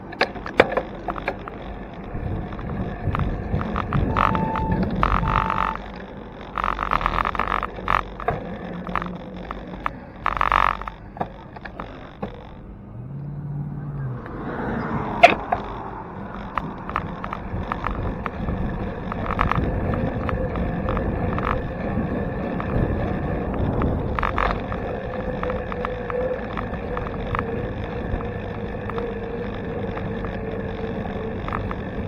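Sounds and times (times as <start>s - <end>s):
bicycle clicks and rattles: 0.0s - 12.7s, 14.2s - 32.0s
tyre and wind noise: 0.0s - 32.0s.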